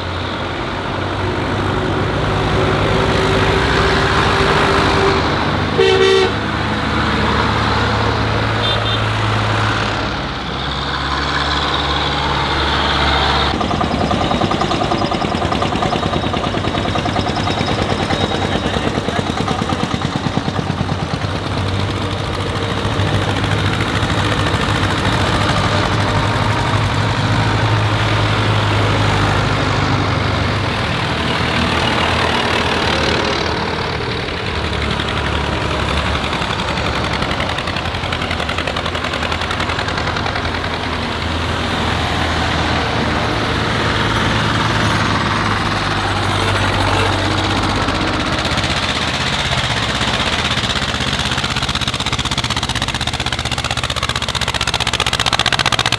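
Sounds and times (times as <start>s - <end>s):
tractor engines running: 0.0s - 55.9s.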